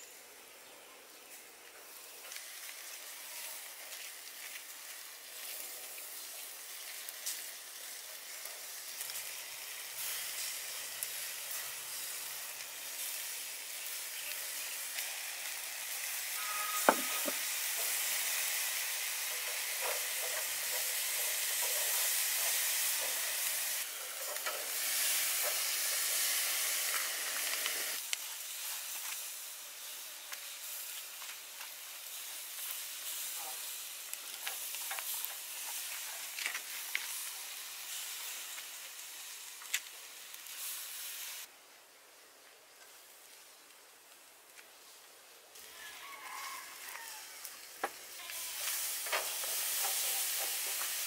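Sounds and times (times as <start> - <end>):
chicken sizzling on a grill: 0.0 - 51.0.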